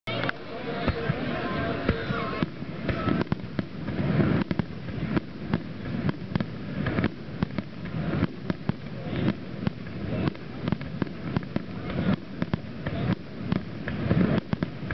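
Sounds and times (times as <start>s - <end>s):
fireworks bangs and crackles: 0.1s - 14.9s.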